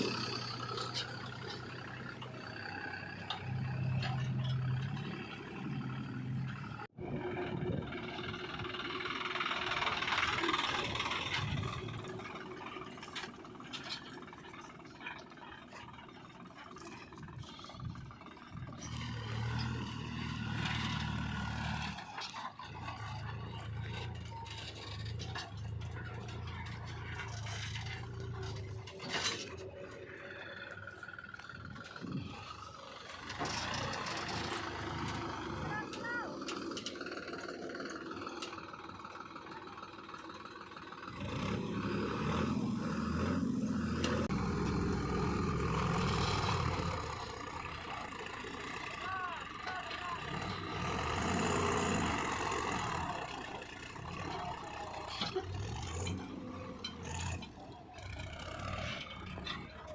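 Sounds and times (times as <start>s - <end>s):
heavy diesel engine running: 0.0s - 59.9s
scraping and rattling mud: 0.0s - 59.9s.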